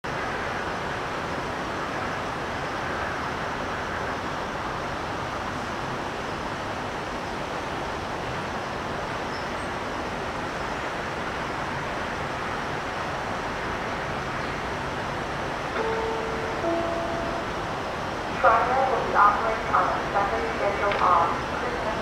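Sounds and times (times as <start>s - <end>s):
distant freight train rumble: 0.1s - 22.0s.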